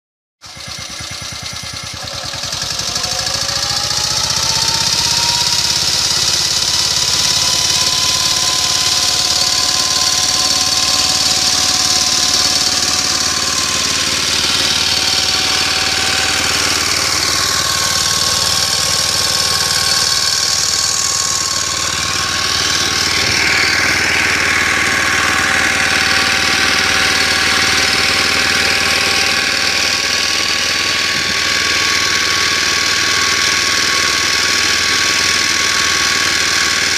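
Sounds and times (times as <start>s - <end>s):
walk-behind tractor engine running: 0.4s - 36.9s.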